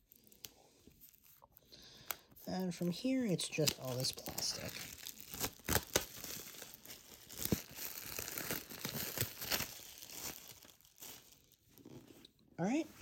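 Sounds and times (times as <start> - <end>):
plastic wrapping crinkling: 0.0 - 12.3.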